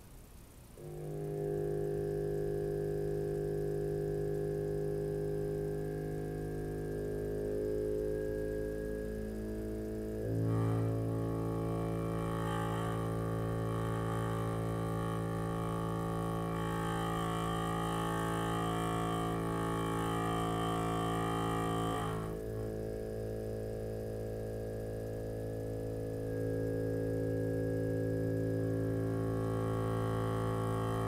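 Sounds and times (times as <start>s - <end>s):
wave driver buzzing low drone: 0.0s - 31.0s.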